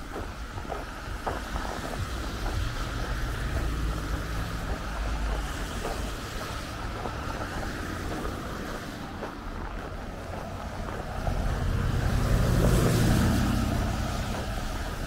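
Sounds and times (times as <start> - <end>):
road traffic passing: 0.0 - 15.0
wind on microphone: 0.0 - 15.0.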